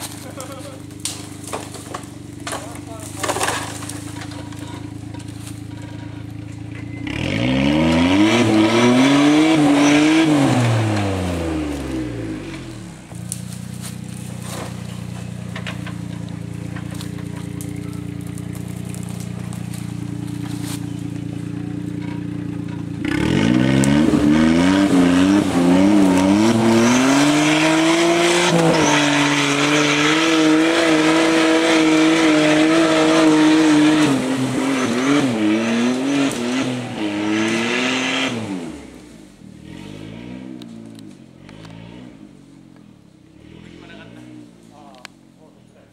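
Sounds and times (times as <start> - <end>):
car engine revving and idling: 0.0 - 45.9.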